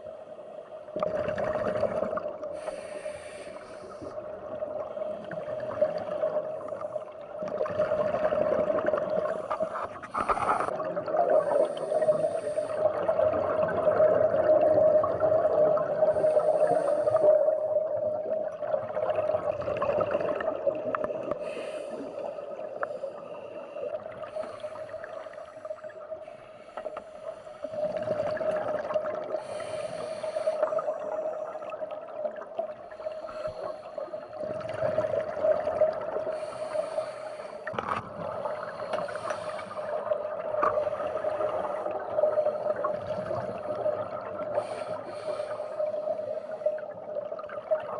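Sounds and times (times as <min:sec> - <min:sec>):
underwater bubbles gurgling: 0:00.0 - 0:47.9.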